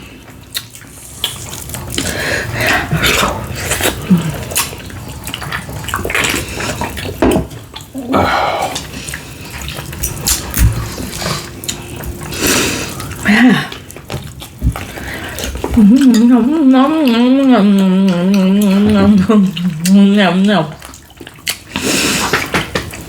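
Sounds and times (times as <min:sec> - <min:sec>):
wet chewing and smacking: 0:00.0 - 0:08.1, 0:08.7 - 0:23.0
slurping: 0:00.5 - 0:23.0.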